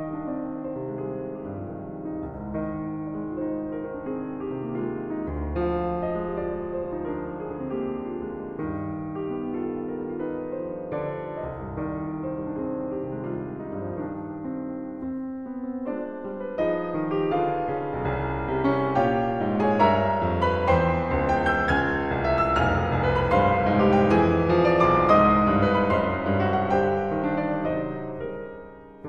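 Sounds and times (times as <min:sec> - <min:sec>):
instrumental piano music: 0:00.0 - 0:29.0.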